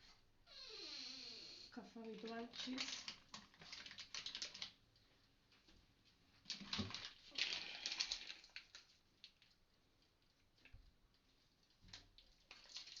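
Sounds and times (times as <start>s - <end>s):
rustling of cheese on bread: 2.2s - 13.0s.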